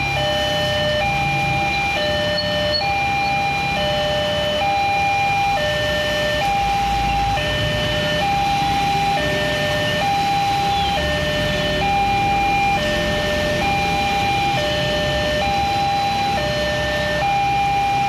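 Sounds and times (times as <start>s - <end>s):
motorbike and car engines: 0.0s - 18.0s
two-tone crossing alarm: 0.0s - 18.0s.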